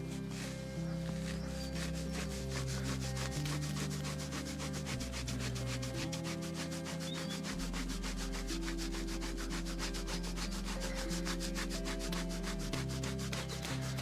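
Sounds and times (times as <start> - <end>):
background music with low notes: 0.0 - 14.0
cloth rubbing on metal: 0.0 - 14.0.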